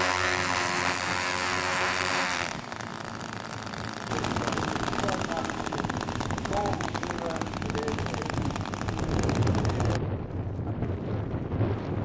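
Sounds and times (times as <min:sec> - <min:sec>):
two-stroke engines running: 0:00.0 - 0:10.0.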